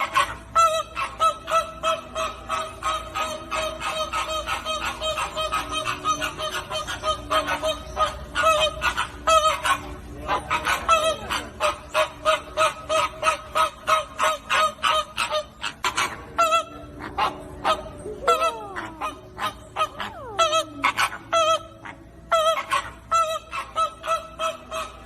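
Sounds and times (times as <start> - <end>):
flamingos honking: 0.0 - 25.0.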